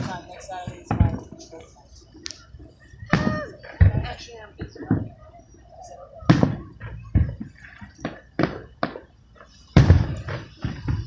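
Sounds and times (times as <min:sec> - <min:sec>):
fireworks booms and pops: 0:00.0 - 0:05.2, 0:06.2 - 0:11.0.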